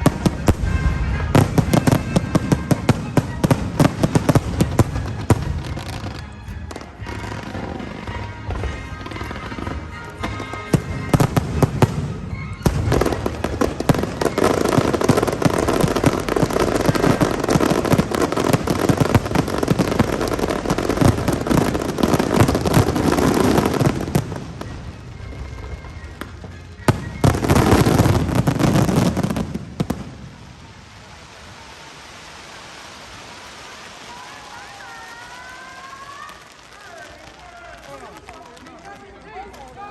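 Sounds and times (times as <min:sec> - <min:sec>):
fireworks crackling and booming: 0:00.0 - 0:39.9.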